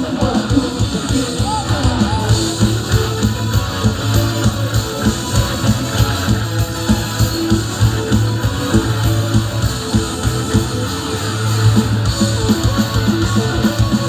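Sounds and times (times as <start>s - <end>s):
bass guitar: 0.0s - 14.0s
drums with a steady beat: 0.0s - 14.0s
strummed electric guitar: 0.0s - 14.0s.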